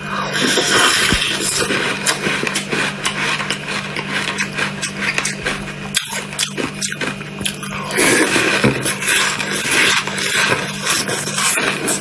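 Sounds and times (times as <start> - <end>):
ice being crunched in mouth: 0.3 - 12.0.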